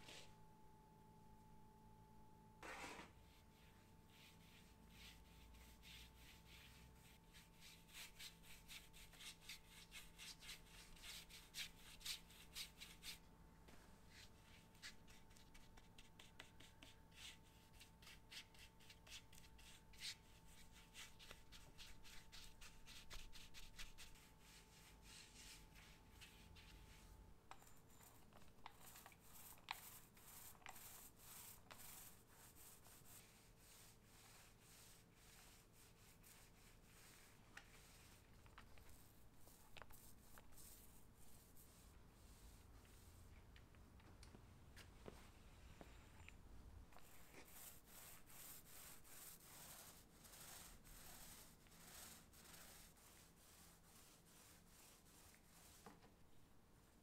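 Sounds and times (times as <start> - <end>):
paintbrush scratchy strokes: 2.6 - 13.2, 14.1 - 43.4, 46.9 - 55.9.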